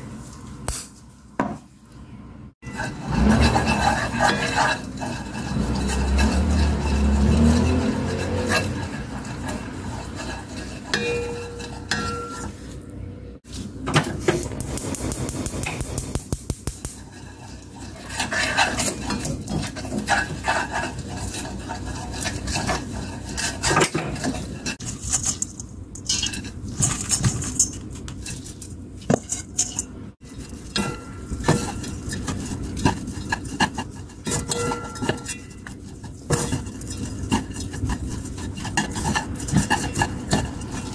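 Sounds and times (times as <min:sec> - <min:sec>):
wooden spatula scraping a wok: 0:02.6 - 0:12.8, 0:16.8 - 0:25.6, 0:26.2 - 0:40.9.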